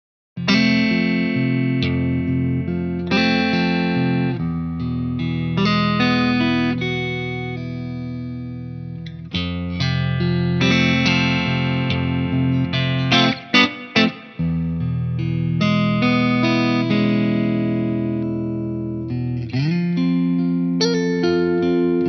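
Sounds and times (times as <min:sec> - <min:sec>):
electric guitar chords: 0:00.4 - 0:22.0.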